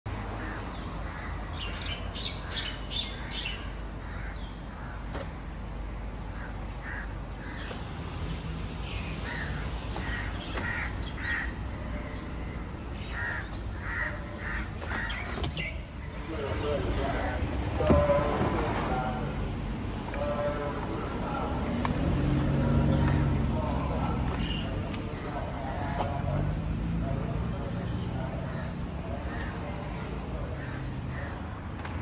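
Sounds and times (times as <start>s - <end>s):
birds calling: 0.3s - 31.6s.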